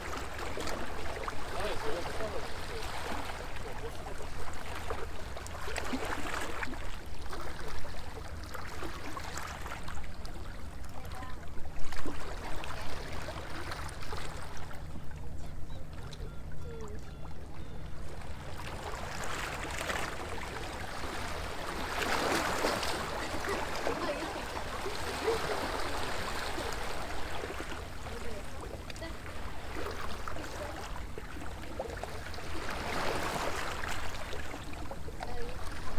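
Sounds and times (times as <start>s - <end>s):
small waves lapping against seawall: 0.0s - 35.9s.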